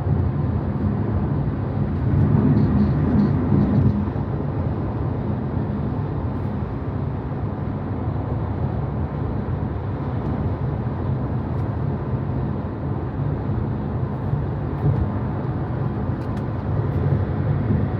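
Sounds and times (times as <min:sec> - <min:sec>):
road and tyre noise in car: 0:00.0 - 0:17.9.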